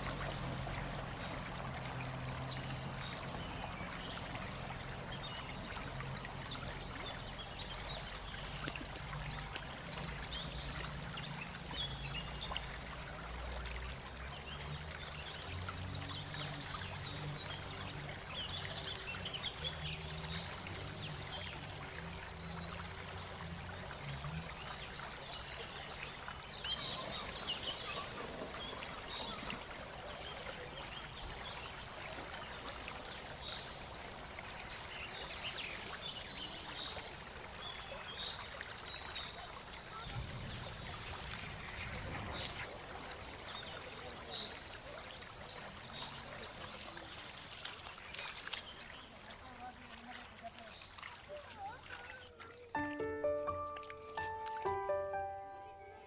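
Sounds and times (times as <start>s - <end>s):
stream water flowing over rocks: 0.0s - 55.8s.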